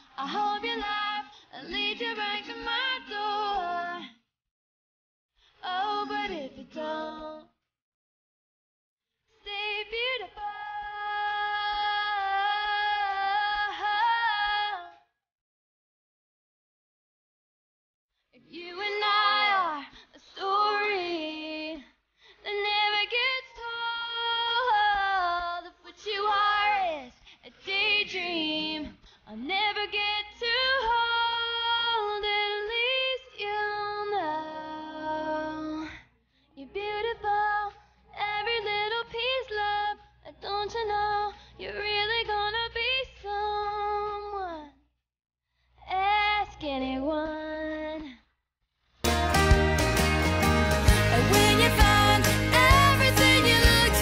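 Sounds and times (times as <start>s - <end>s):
woman singing pop melody: 0.0s - 4.1s, 5.6s - 7.5s, 9.4s - 15.0s, 18.4s - 21.8s, 22.4s - 35.8s, 36.6s - 44.6s, 45.9s - 48.2s, 49.0s - 54.0s.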